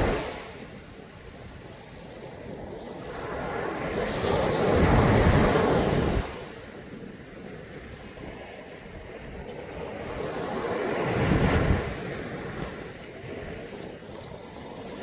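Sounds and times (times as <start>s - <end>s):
sea waves washing on beach: 0.0s - 15.0s.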